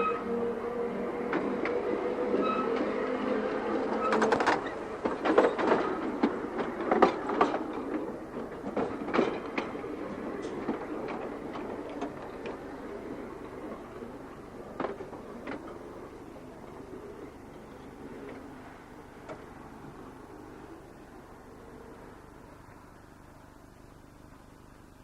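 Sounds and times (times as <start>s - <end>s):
tram wheels clicking on track: 0.0s - 24.6s
electric tram motor hum: 0.0s - 25.0s.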